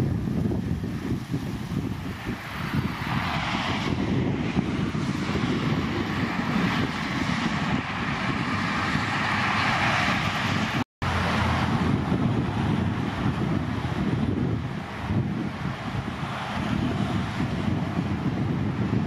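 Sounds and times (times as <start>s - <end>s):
road traffic hiss: 0.0s - 19.0s
wind buffeting microphone: 0.0s - 19.0s.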